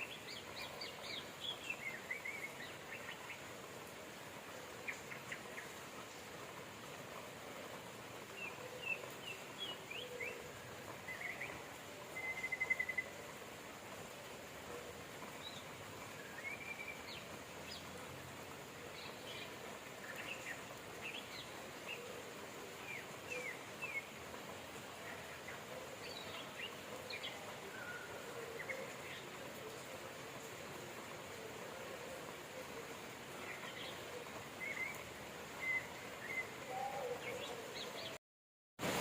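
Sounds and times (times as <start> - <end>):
steady rain: 0.0 - 38.2, 38.8 - 39.0.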